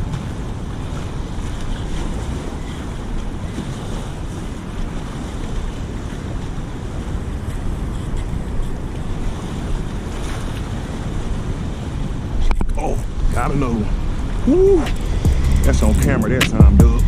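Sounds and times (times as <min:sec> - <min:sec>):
open water washing: 0:00.0 - 0:17.0
wind buffeting microphone: 0:00.0 - 0:17.0.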